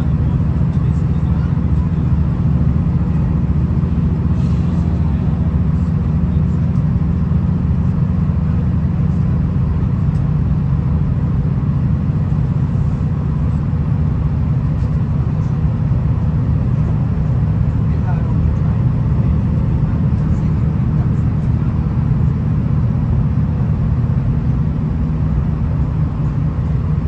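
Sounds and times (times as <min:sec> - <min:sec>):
train engine and wheels rumbling: 0:00.0 - 0:27.0.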